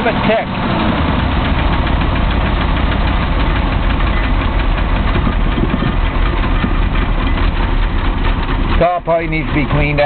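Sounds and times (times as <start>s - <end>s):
fast engine ticking: 0.0s - 10.0s
truck engine idling: 0.0s - 10.0s.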